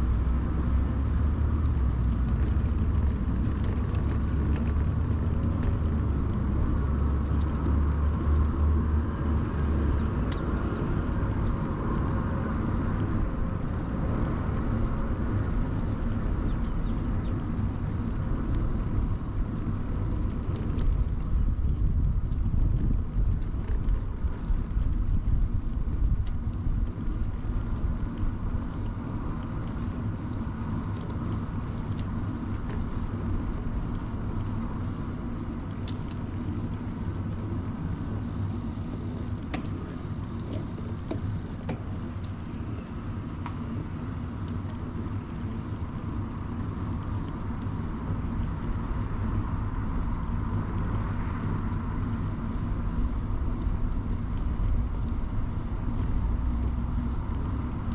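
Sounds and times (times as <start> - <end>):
tyres rolling on pavement: 0.0 - 57.9
wind rumble on microphone: 0.0 - 57.9.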